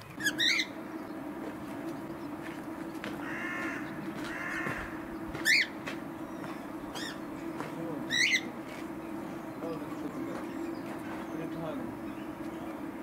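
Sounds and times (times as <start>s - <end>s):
birds calling: 0.0s - 13.0s
steady low hum: 0.0s - 13.0s.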